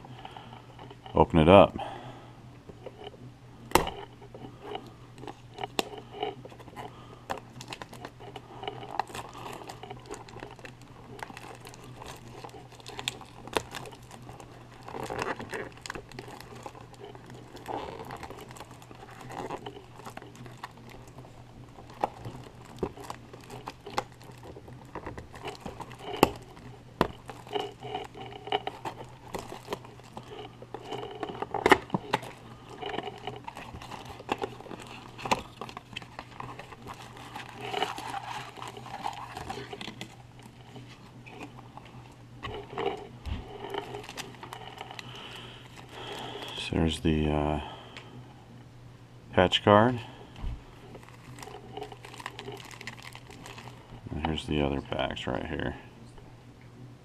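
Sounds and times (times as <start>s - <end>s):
card packs handled: 2.7s - 48.1s, 49.6s - 55.7s
plastic shrink-wrap crinkling: 3.7s - 47.0s, 50.6s - 55.3s.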